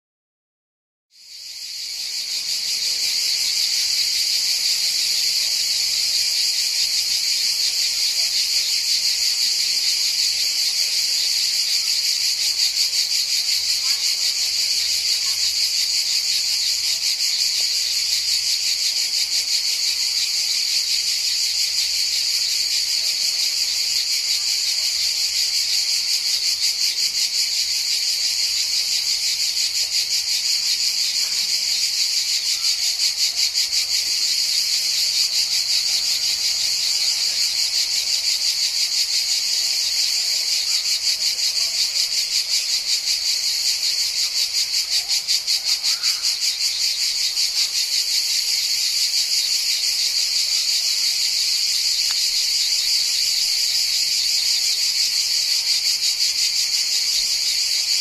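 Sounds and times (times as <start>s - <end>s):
cicadas buzzing: 1.2s - 58.0s.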